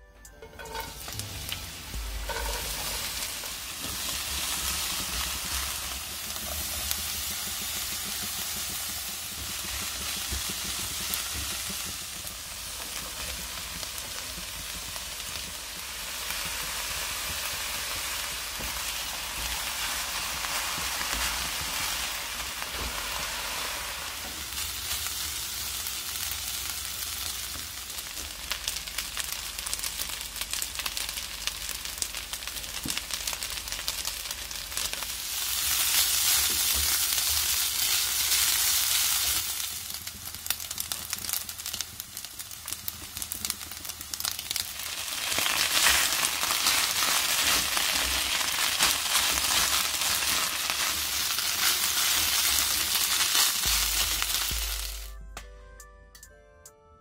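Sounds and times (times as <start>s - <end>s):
food sizzling in hot oil: 0.4s - 55.1s.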